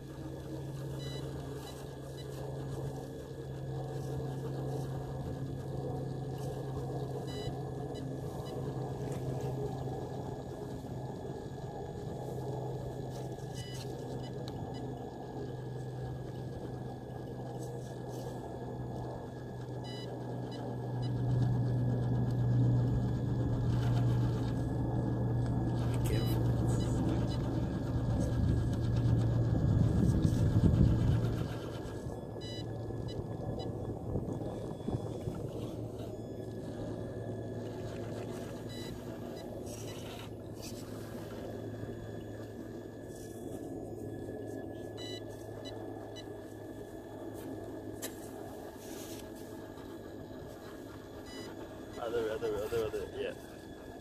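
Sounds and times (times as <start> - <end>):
electric motor and drivetrain humming: 0.0 - 54.0.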